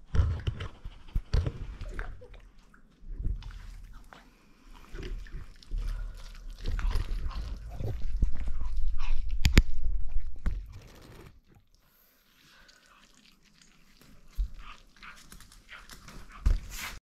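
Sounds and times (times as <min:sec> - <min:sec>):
dog chewing and crunching food: 0:00.0 - 0:11.4, 0:12.3 - 0:17.0
wet mouth noises: 0:00.0 - 0:16.0.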